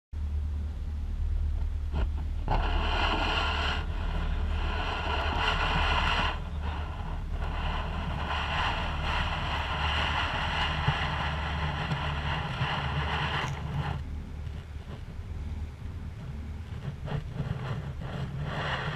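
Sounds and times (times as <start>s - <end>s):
wind buffeting microphone: 0.2s - 18.9s
water rushing along boat hull: 2.0s - 15.2s, 15.8s - 18.9s.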